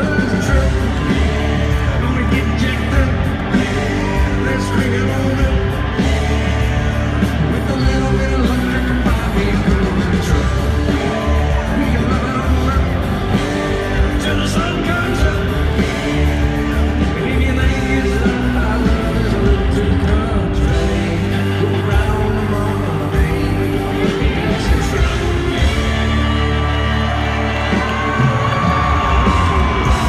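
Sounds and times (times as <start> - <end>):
man singing into a microphone: 0.0 - 26.8
country-rock band playing: 0.0 - 30.0
drums: 0.0 - 30.0
heavy low bass: 0.0 - 30.0.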